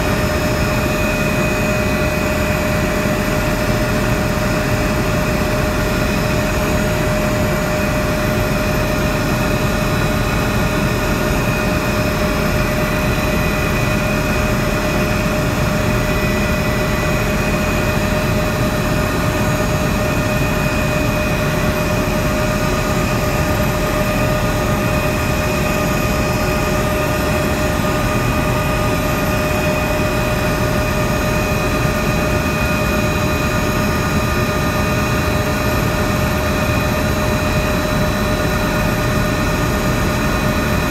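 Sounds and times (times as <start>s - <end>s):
helicopter engine and rotor noise: 0.0s - 40.9s.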